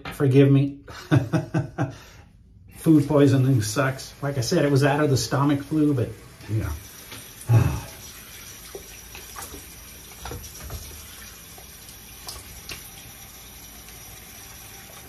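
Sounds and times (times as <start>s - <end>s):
tap water running into sink: 2.8s - 15.0s.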